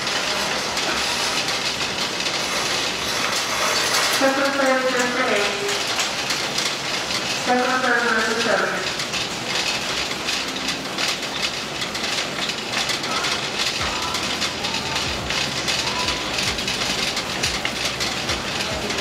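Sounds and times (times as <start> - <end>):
shopping cart rattling: 0.0 - 19.0.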